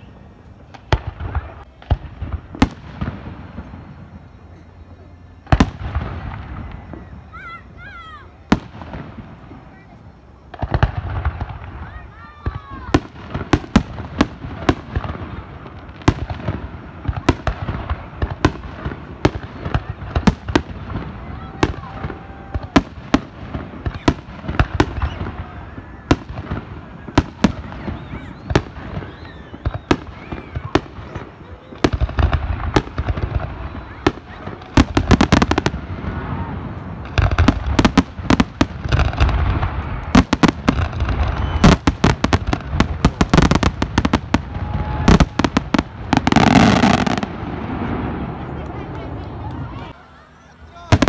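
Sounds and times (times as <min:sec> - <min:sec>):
fireworks bursting with sharp bangs: 0:00.0 - 0:51.0.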